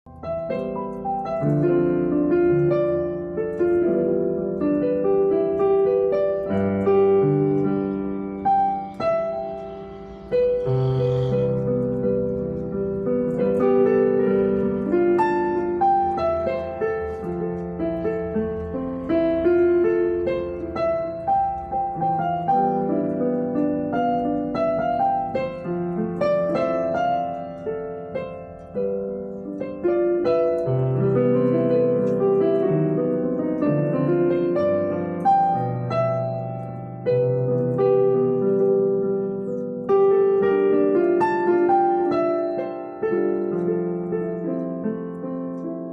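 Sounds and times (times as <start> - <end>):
piano melody over chords: 0.0 - 45.9.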